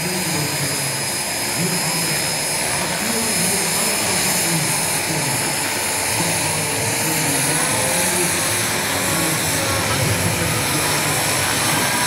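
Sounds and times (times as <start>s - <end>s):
model turbine engine whine: 0.0s - 12.0s.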